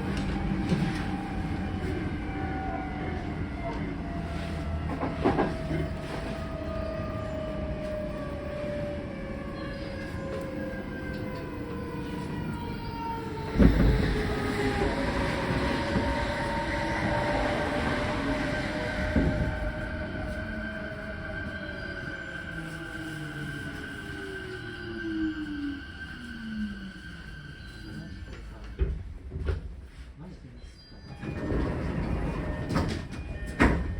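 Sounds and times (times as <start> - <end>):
wheels rumbling on rail: 0.0 - 30.2, 31.1 - 33.9.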